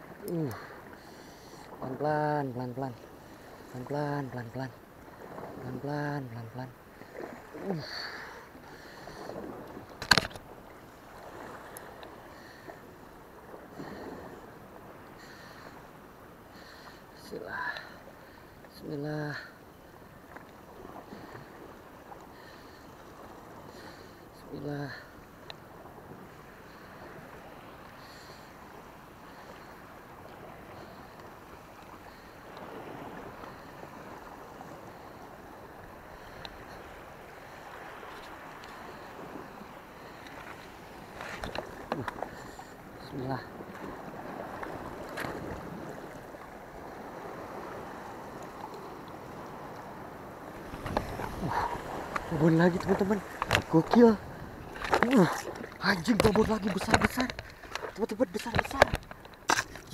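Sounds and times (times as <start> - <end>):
sea and wind noise: 0.0 - 59.9.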